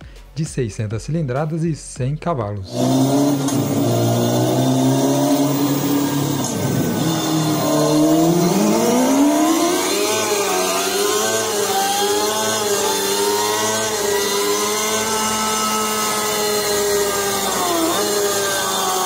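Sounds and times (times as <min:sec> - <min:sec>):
emulated motorcycle engine revving: 0:02.6 - 0:19.0.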